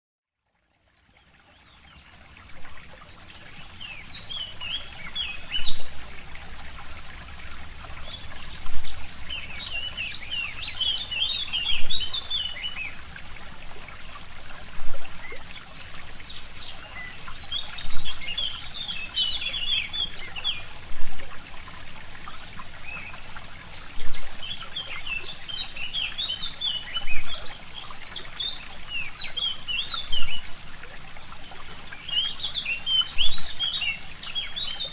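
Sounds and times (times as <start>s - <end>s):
stream trickling: 0.3s - 34.9s.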